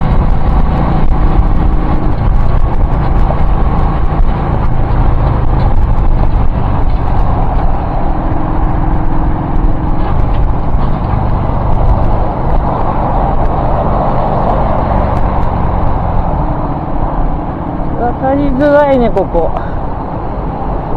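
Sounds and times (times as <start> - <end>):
road and wind rumble: 0.0 - 20.9
vehicle engine hum: 0.0 - 20.9.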